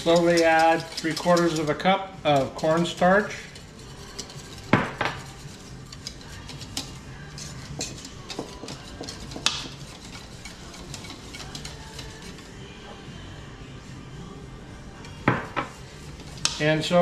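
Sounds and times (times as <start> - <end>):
whisk clicking and scraping bowl: 0.0 - 12.6, 15.0 - 17.0.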